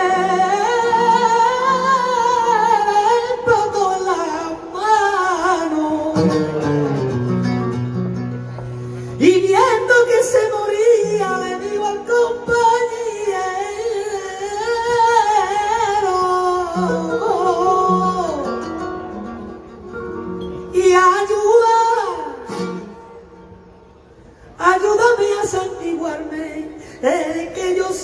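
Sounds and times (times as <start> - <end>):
man singing flamenco: 0.0 - 7.4, 9.2 - 19.3, 20.7 - 23.1, 24.6 - 28.0
flamenco guitar: 0.0 - 28.0.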